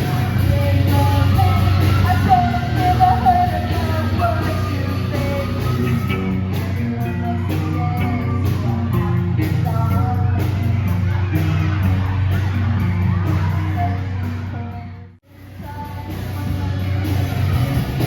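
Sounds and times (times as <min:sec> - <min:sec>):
person singing: 0:00.0 - 0:18.0
rock band playing: 0:00.0 - 0:18.0.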